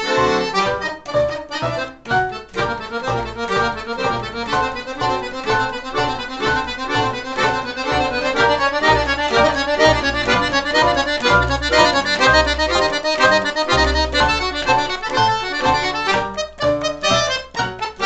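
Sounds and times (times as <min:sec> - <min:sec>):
accordion playing melody: 0:00.0 - 0:18.0.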